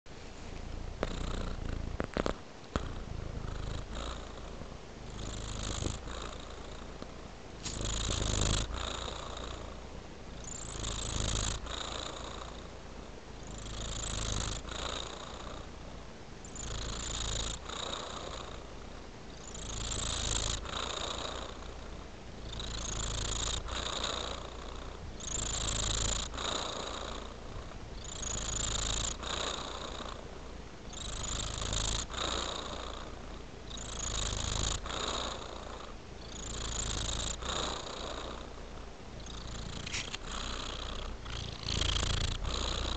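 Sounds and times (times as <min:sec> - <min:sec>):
cat purring: 0:00.2 - 0:42.9.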